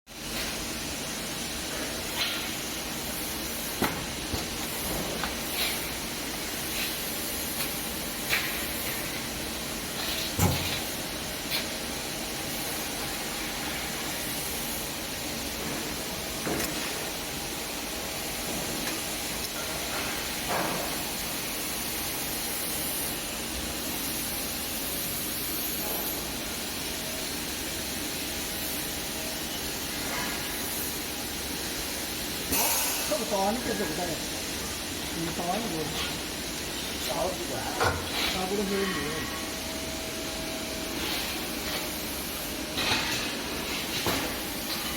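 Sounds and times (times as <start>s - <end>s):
welding machine hiss: 0.1s - 44.9s.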